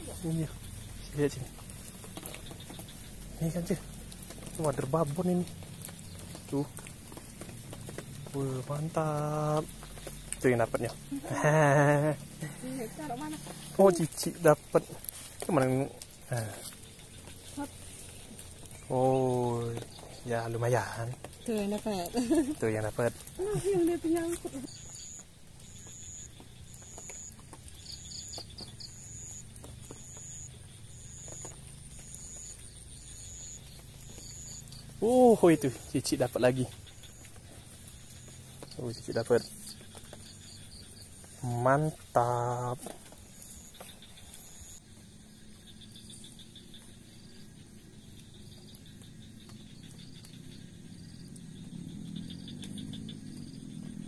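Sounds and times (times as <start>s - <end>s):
low outdoor rumble: 0.0s - 43.5s, 47.8s - 54.0s
insect calling: 0.0s - 54.0s
short insect chirps: 0.0s - 54.0s.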